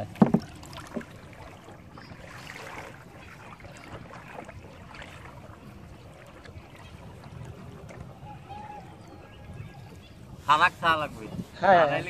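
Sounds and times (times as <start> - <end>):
water lapping around boats: 0.0 - 12.0.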